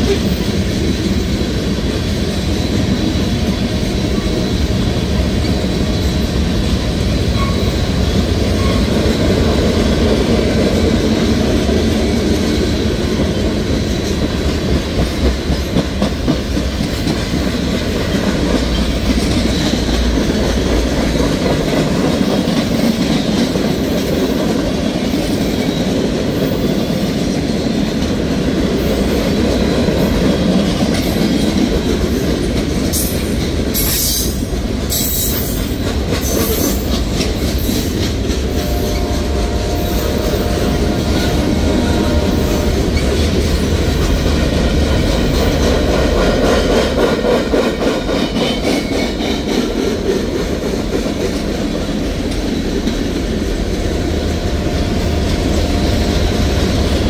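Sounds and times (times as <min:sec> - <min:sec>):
clickety-clack over rail joints: 0:00.0 - 0:57.0
freight train wheels rumbling: 0:00.0 - 0:57.0.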